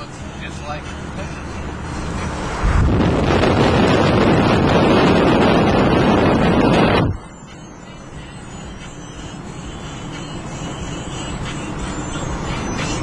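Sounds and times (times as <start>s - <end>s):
hum of moving car: 0.0s - 13.0s
wind and road noise of car: 0.0s - 13.0s.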